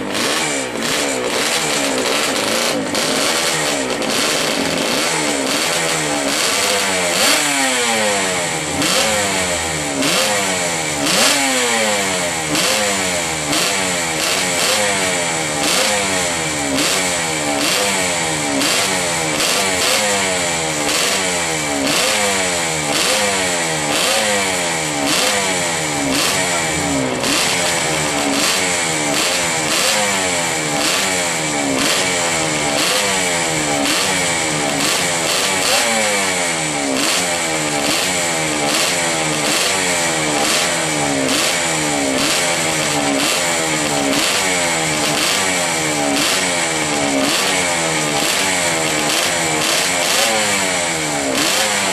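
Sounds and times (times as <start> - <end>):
two-stroke engine revving: 0.0 - 51.9.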